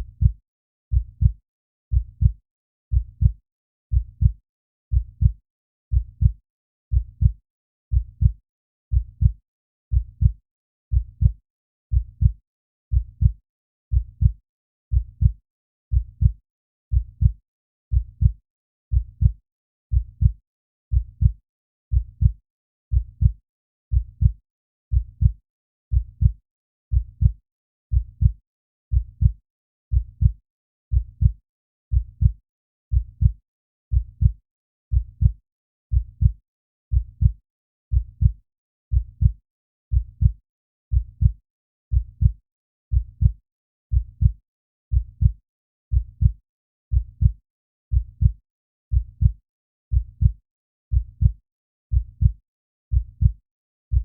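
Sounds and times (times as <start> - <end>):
heartbeat: 0.0 - 54.0.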